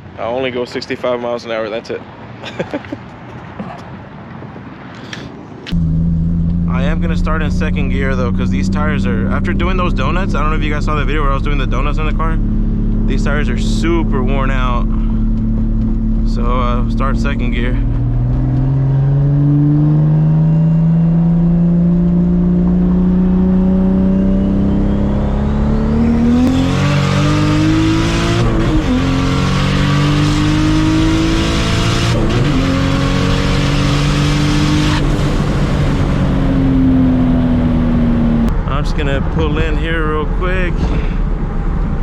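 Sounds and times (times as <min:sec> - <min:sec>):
car engine accelerating: 0:05.7 - 0:42.0.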